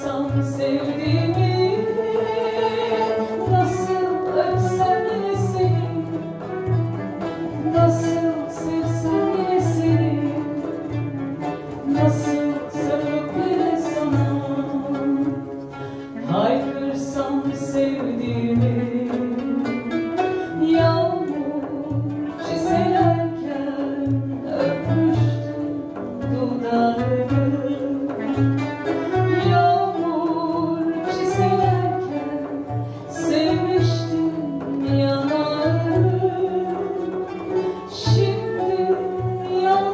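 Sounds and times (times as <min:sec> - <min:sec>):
strings and plucked accompaniment: 0:00.0 - 0:39.9
woman singing with vibrato: 0:00.0 - 0:39.9.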